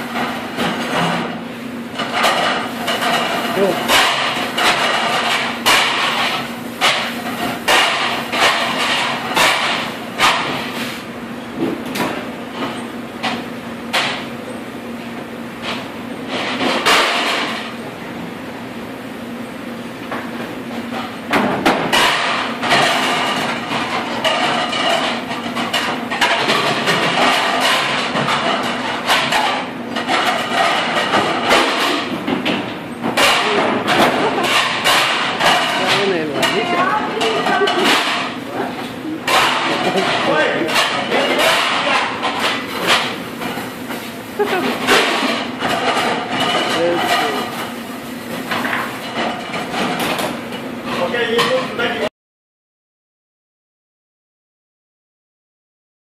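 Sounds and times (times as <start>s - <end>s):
dishes and racks clattering: 0.0s - 14.6s, 15.6s - 17.8s, 20.1s - 52.1s
dishwasher machine humming: 0.0s - 52.1s.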